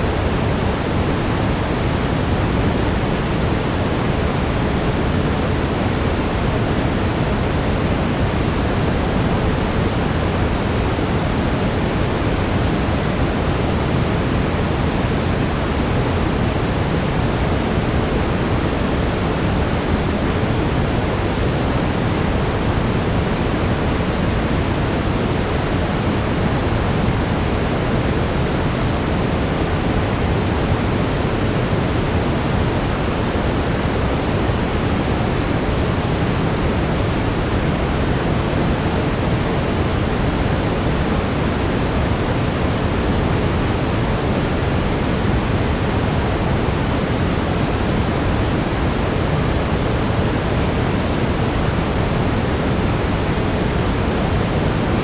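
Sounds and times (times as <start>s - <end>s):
steady brown noise hiss: 0.0s - 55.0s.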